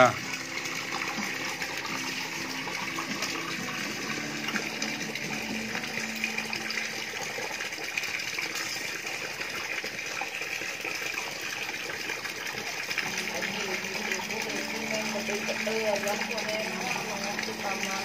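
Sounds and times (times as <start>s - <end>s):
water pouring into pool: 0.0s - 18.0s.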